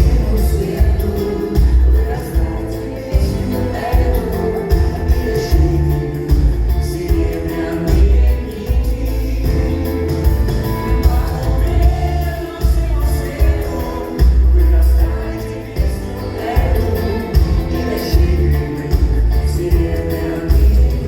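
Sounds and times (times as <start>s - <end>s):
heavy bass beat: 0.0s - 21.0s
live pop song with band: 0.0s - 21.0s.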